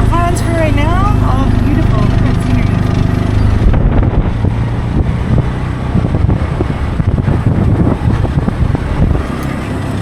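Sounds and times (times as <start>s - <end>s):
auto-rickshaw engine humming: 0.0s - 10.0s
wind buffeting microphone: 0.0s - 10.0s.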